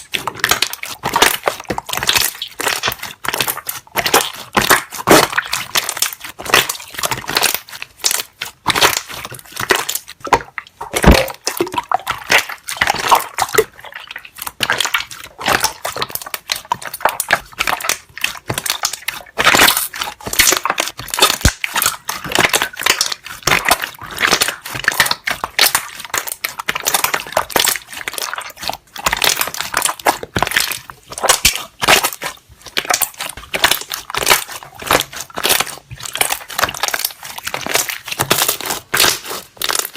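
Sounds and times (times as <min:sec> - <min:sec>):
air bubbles popping: 0:00.0 - 0:39.9
slime squishing: 0:00.0 - 0:39.9.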